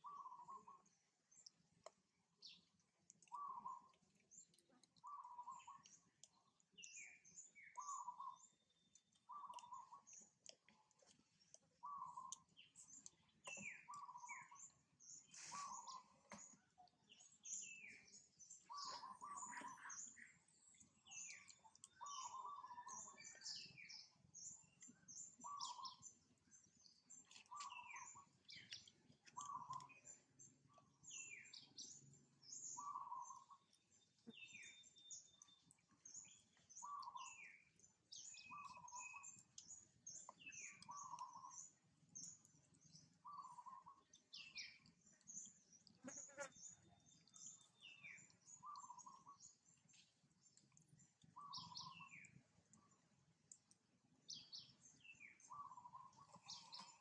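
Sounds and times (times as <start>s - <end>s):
birds chirping high: 0.0s - 1.6s, 2.4s - 57.0s.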